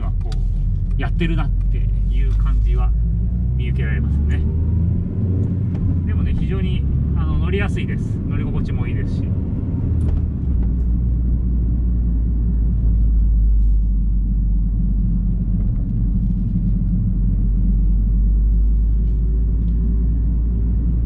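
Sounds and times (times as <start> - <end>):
engine drone inside car: 0.0 - 21.0
tyre road noise: 0.0 - 21.0.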